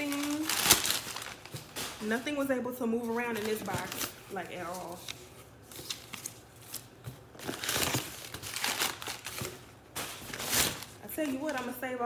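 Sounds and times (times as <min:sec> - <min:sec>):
packing paper crinkling: 0:00.0 - 0:02.4, 0:03.0 - 0:11.8.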